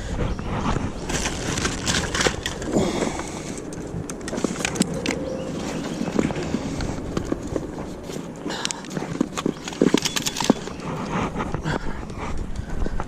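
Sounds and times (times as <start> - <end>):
steady low rumble: 0.0 - 13.0
gear clicks and knocks: 0.8 - 13.0.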